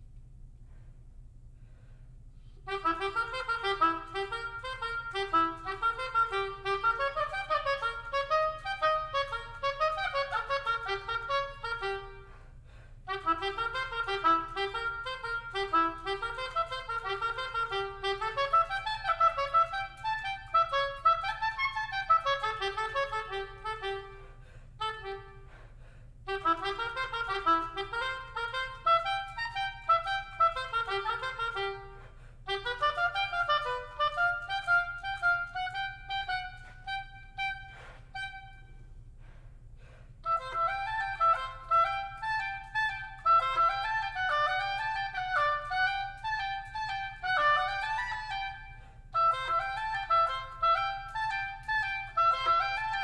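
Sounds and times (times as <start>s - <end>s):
solo oboe playing: 2.4s - 53.0s.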